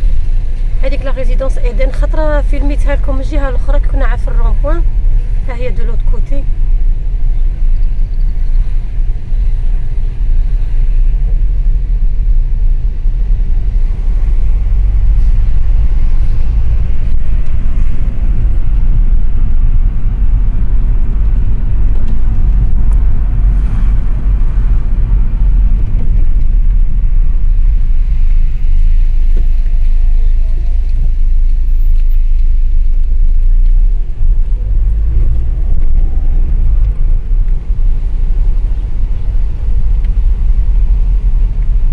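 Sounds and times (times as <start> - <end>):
car interior engine and road rumble: 0.0 - 41.9.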